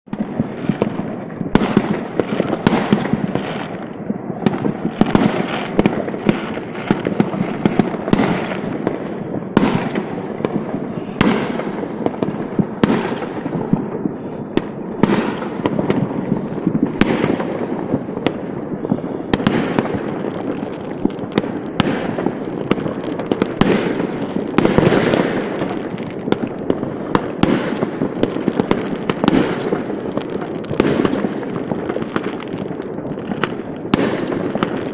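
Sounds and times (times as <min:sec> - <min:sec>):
fireworks bangs and pops: 0:00.1 - 0:34.9
fireworks crackling: 0:00.1 - 0:34.9.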